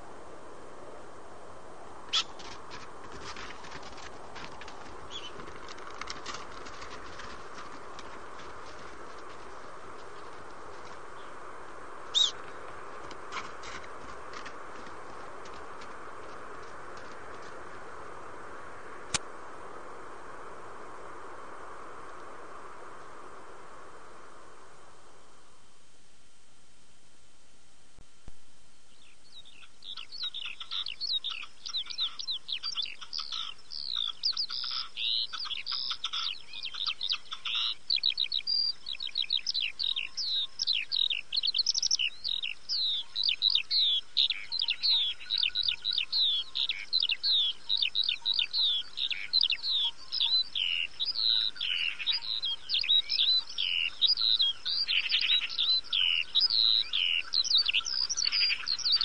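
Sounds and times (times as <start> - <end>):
small birds chirping: 2.1 - 19.2, 28.7 - 59.0.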